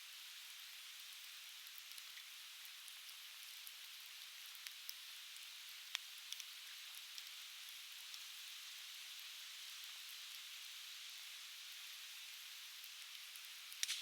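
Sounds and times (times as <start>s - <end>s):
firewood crackling in open fire: 0.9s - 14.0s.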